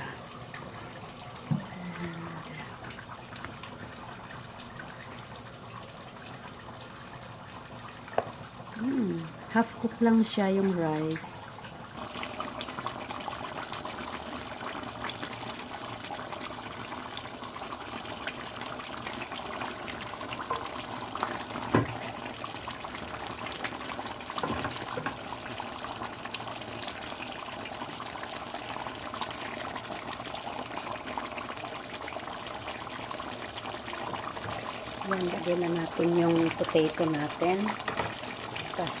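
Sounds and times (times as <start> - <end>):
water running or bubbling: 0.0 - 39.0.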